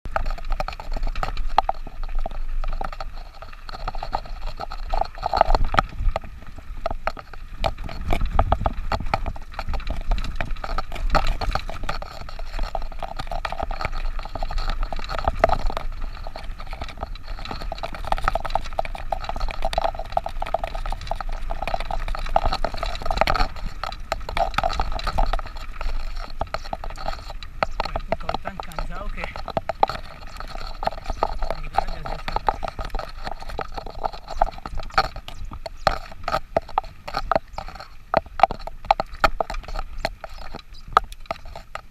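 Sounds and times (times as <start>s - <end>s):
bike rattling and knocking: 0.1s - 41.9s
wind on microphone: 0.1s - 41.9s.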